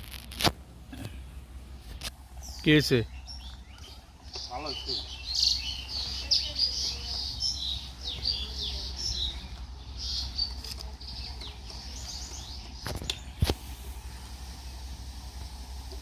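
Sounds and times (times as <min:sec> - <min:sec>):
small birds chirping: 0:00.9 - 0:16.0.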